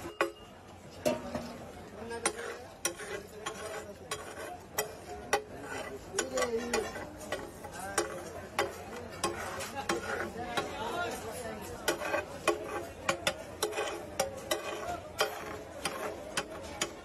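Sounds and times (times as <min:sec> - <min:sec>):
metal spatula scraping griddle: 0:01.1 - 0:17.0.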